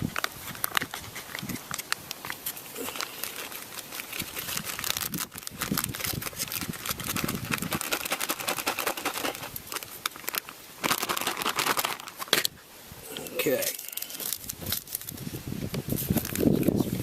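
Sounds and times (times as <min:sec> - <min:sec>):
packaging crinkling and rustling: 0:00.0 - 0:12.6, 0:13.4 - 0:16.7.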